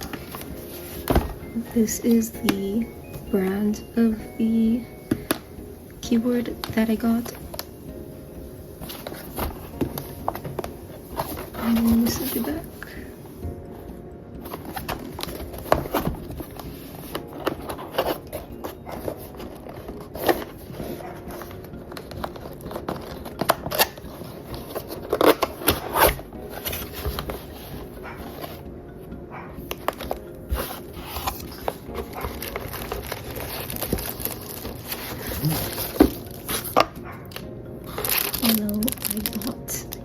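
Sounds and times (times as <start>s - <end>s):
cardboard and plastic rustling: 0.0s - 40.0s.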